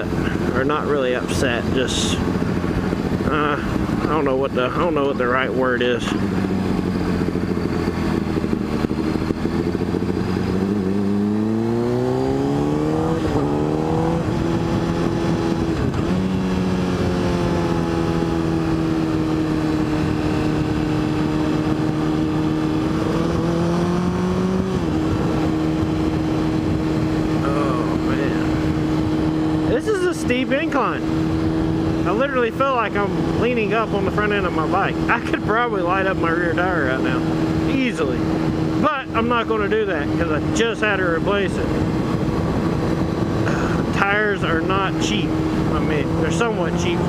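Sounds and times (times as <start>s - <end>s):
motorcycle engine accelerating: 0.0s - 47.0s
wind and road noise: 0.0s - 47.0s.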